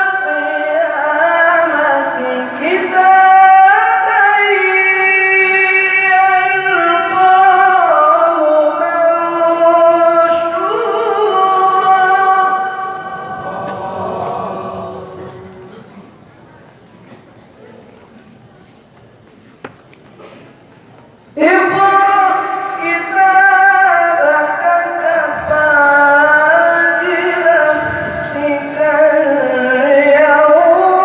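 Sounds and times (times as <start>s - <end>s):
man reciting melodically: 0.0s - 16.1s, 21.3s - 31.0s.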